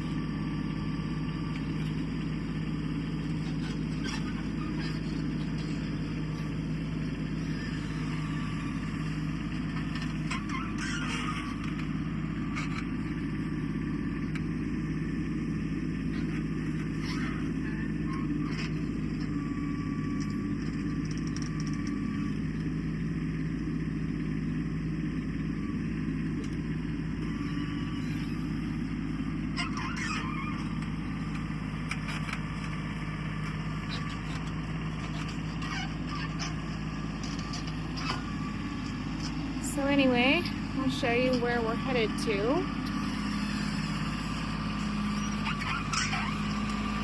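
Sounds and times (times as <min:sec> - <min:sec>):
diesel tractor engine running: 0:00.0 - 0:47.0.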